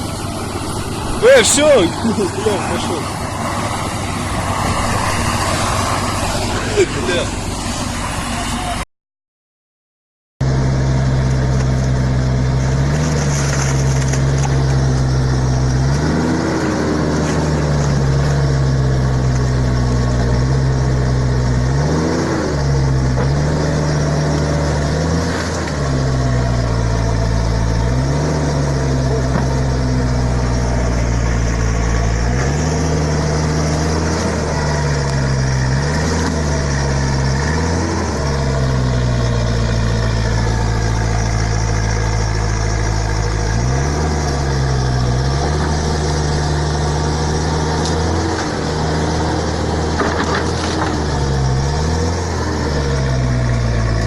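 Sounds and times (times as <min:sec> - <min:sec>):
heavy equipment engine running: 0:00.0 - 0:08.8, 0:10.4 - 0:54.0.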